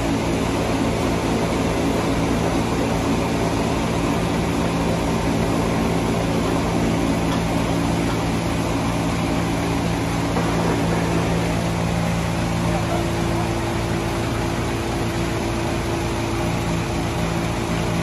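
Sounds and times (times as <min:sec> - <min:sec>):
sawmill machinery engine running: 0:00.0 - 0:18.0.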